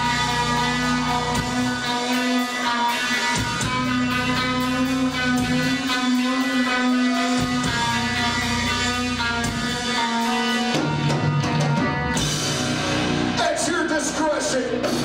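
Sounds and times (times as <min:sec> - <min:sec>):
electric guitars droning: 0:00.0 - 0:15.0.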